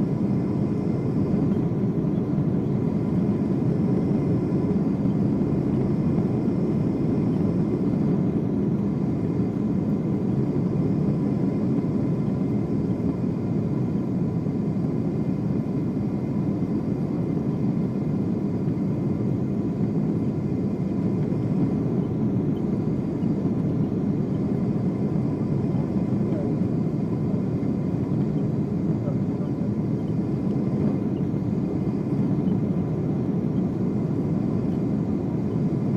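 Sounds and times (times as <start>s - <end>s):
airplane cabin roar: 0.0s - 35.9s.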